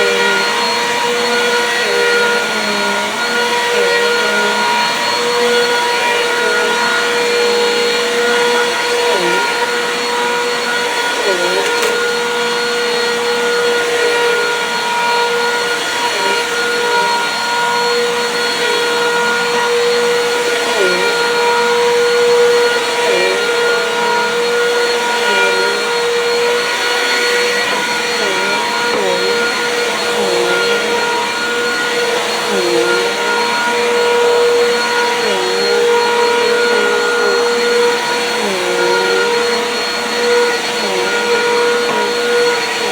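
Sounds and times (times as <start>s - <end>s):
vacuum cleaner on carpet: 0.0s - 42.9s.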